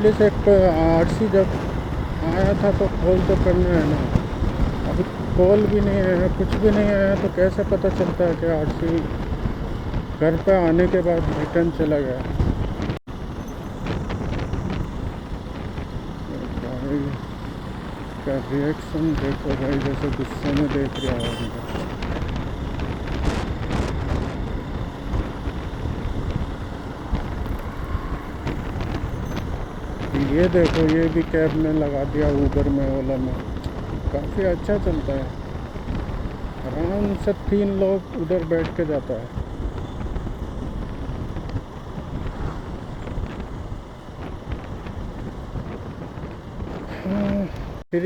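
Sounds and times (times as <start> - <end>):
motorcycle engine: 0.0 - 47.8
road traffic noise: 0.0 - 48.0
wind buffeting microphone: 0.0 - 48.0.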